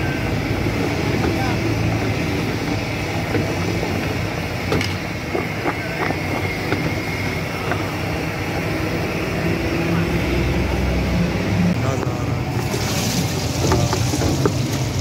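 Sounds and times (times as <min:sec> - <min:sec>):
steady background din: 0:00.0 - 0:15.0.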